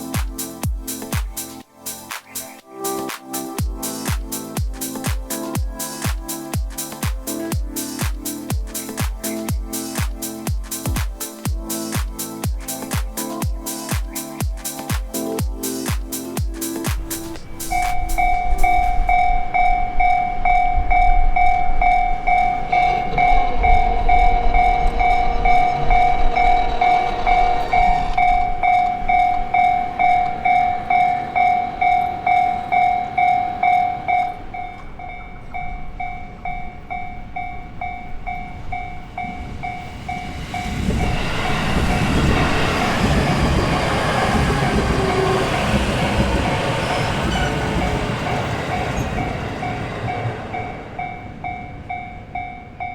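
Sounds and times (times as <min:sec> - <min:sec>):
electric train rumbling past: 0:00.0 - 0:52.9
level-crossing alarm bell ringing: 0:03.4 - 0:52.9.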